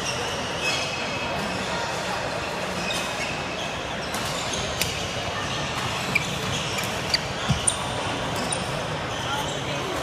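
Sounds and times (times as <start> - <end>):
large hall background noise: 0.0 - 10.0.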